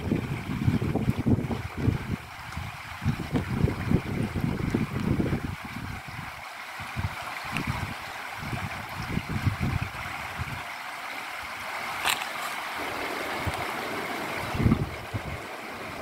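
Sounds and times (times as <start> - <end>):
wind buffeting on microphone: 0.0 - 10.7, 11.4 - 16.0
river rushing over stones: 0.0 - 16.0.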